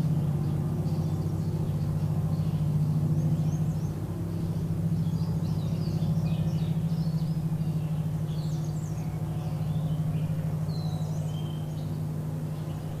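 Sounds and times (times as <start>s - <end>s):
low pulsing drone: 0.0s - 13.0s
small birds chirping: 0.0s - 13.0s.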